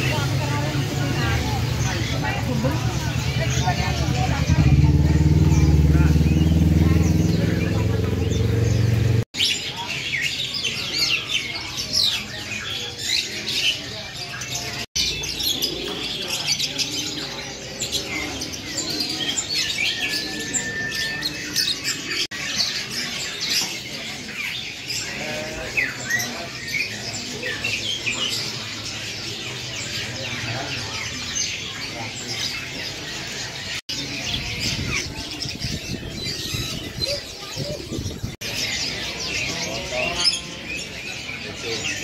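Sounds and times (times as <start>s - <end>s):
caged birds chirping and squawking: 0.0s - 42.0s
murmur of voices: 0.0s - 42.0s.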